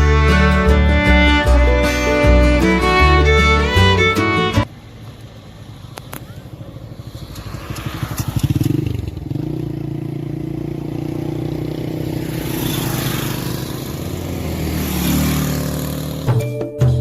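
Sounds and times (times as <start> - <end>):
motorcycle engine running: 0.0 - 16.5.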